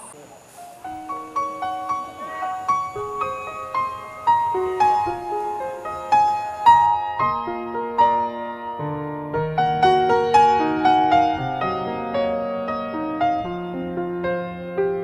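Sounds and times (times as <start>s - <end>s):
piano melody: 0.6s - 15.0s.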